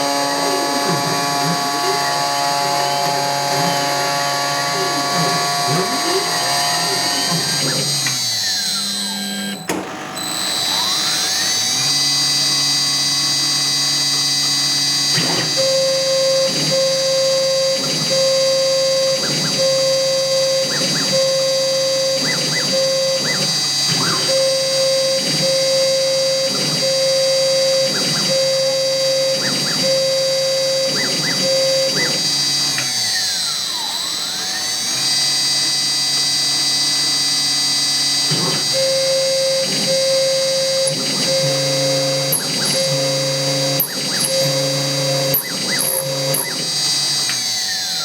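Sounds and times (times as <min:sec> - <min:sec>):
milling machine motor whine: 0:00.0 - 0:48.0.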